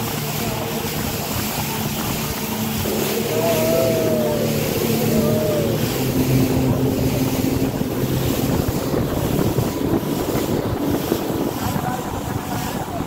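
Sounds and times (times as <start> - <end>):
speedboat engine running: 0.0 - 13.0
water rushing and spraying: 0.0 - 13.0
wind noise on microphone: 0.0 - 13.0.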